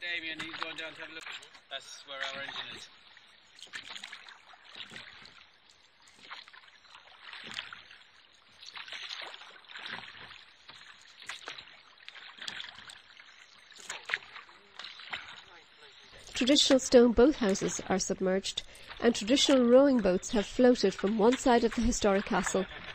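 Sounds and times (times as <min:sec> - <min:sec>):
oars splashing in water: 0:00.2 - 0:22.9.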